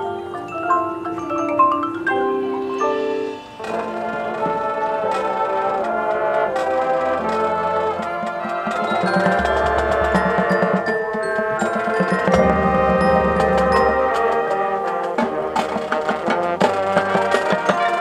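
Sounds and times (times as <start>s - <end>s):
mallet percussion notes: 0.0s - 18.0s
marching band music: 0.0s - 18.0s.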